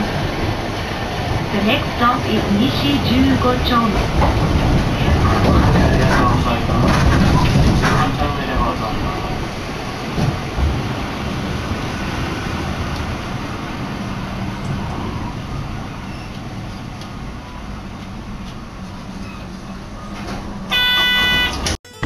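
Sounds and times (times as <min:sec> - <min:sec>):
streetcar wheels rumbling on rails: 0:00.0 - 0:21.8.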